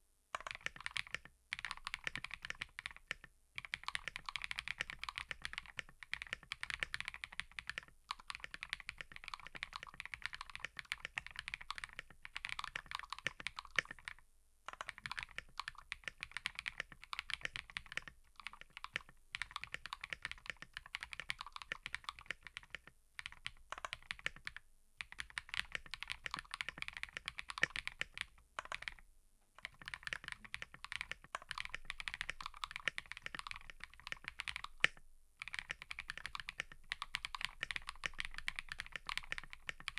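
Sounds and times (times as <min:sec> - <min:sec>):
typing on mechanical keyboard: 0:00.4 - 0:29.0, 0:29.6 - 0:39.9.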